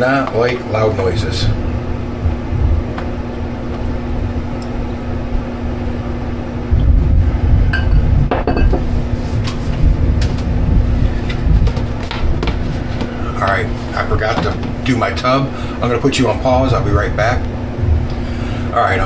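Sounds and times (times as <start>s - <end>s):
electric fan hum: 0.0s - 19.0s.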